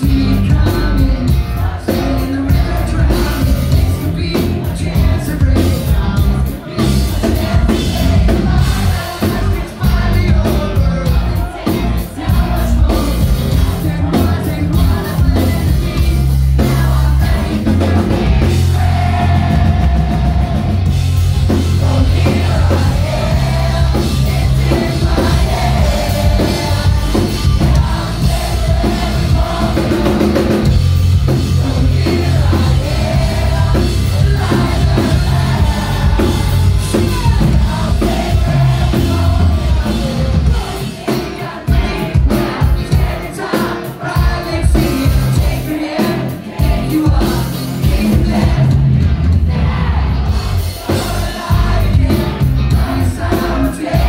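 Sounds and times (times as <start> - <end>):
drum kit: 0.0 - 54.0
rock band playing live: 0.0 - 54.0
sung vocals: 0.0 - 54.0.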